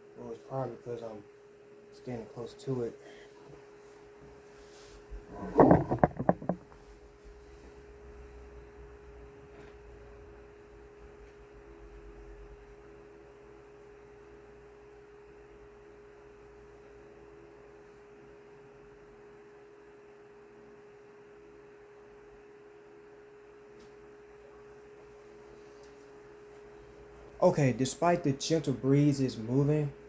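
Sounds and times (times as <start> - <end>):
fan motor hum: 0.0 - 19.2, 23.2 - 30.0.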